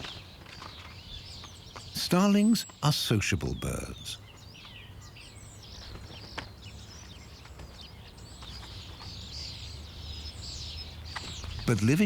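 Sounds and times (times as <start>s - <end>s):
starlings calling: 0.0s - 12.0s.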